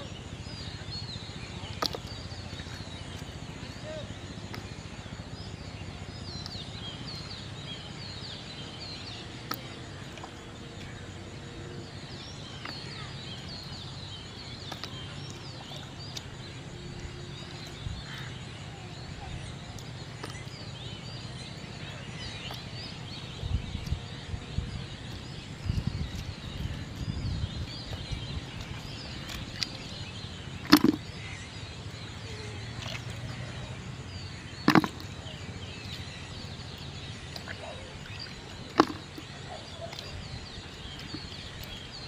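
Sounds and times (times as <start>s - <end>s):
birds chirping: 0.0s - 42.0s
steady low rumble: 0.0s - 42.0s.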